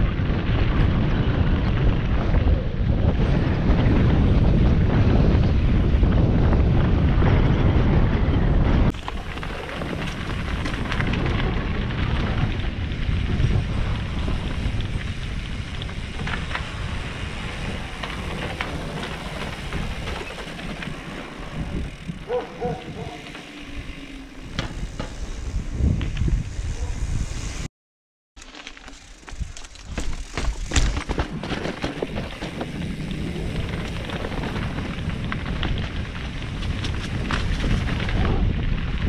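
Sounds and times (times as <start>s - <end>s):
bike rattling over bumps: 0.0s - 27.7s, 28.4s - 39.0s
bike tyres rolling on path: 0.0s - 27.7s, 28.4s - 39.0s
wind on microphone: 0.0s - 27.7s, 32.0s - 39.0s.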